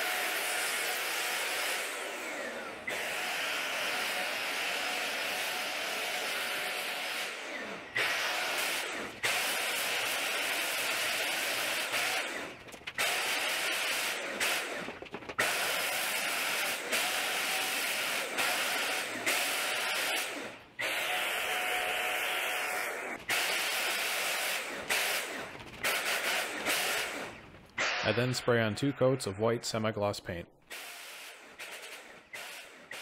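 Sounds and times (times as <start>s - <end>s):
electric paint sprayer whirring and hissing: 0.0s - 28.0s, 30.7s - 33.0s.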